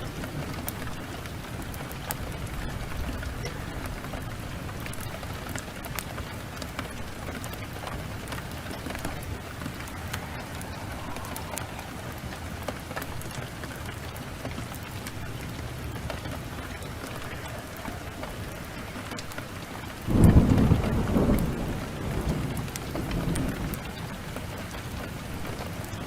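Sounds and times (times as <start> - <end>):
heavy rain: 0.0 - 26.0
thunder clap rumbling: 0.0 - 26.0.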